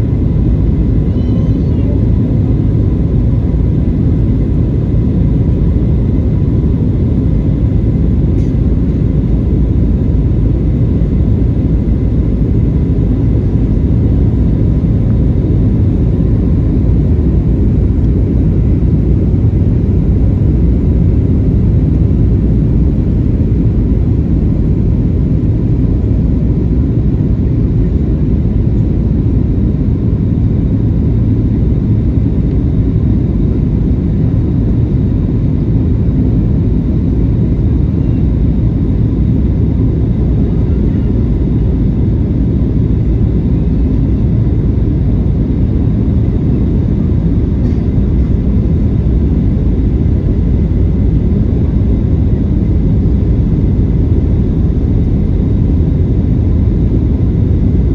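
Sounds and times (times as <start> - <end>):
airliner engine rumble: 0.0 - 57.9.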